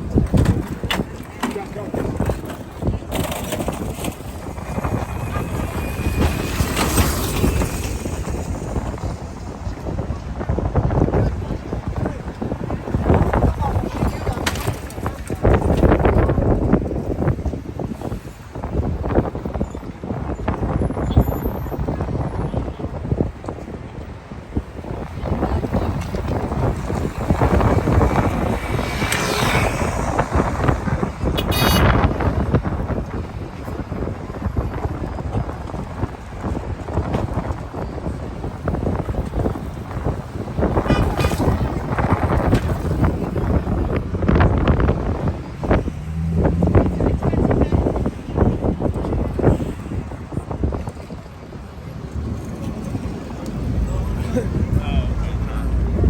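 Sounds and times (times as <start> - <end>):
busy city street noise: 0.0 - 56.0
wind buffeting microphone: 0.0 - 56.0.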